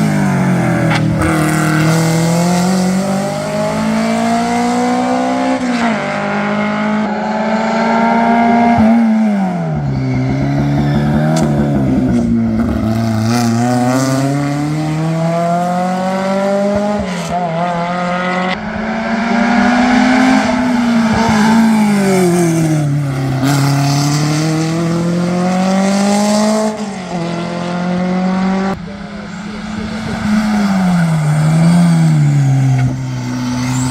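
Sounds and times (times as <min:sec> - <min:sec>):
racing car engine revving: 0:00.0 - 0:33.9.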